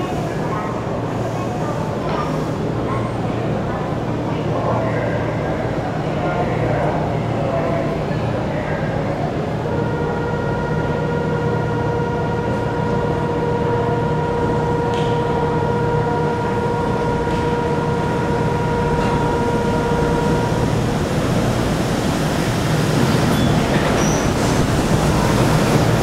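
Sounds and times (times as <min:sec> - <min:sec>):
monorail train rumbling: 0:00.0 - 0:26.0.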